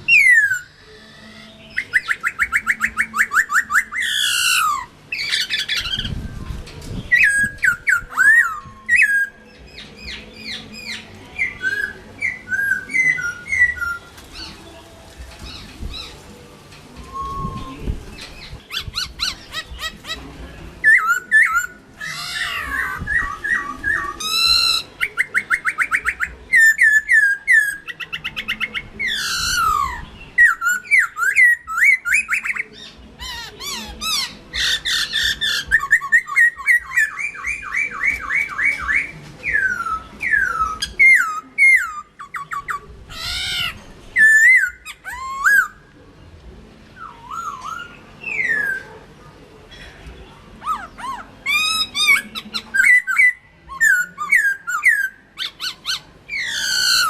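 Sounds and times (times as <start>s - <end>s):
bird singing whistled song: 0.0s - 14.6s, 17.0s - 20.0s, 20.8s - 42.8s, 44.2s - 45.8s, 47.0s - 48.9s, 50.7s - 57.0s.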